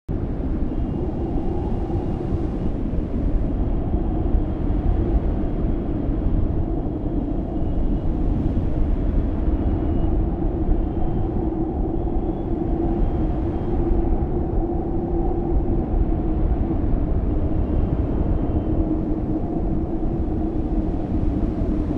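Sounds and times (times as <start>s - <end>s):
strong wind blowing: 0.1s - 21.9s.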